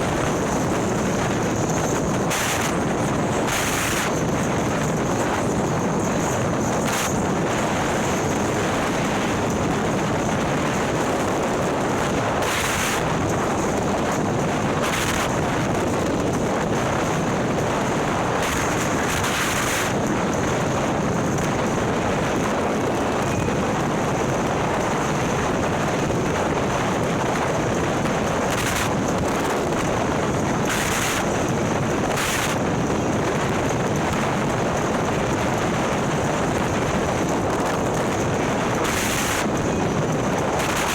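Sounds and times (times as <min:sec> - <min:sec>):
hissing wind gusts: 0:00.0 - 0:40.9
wind rush over microphone: 0:00.0 - 0:40.9.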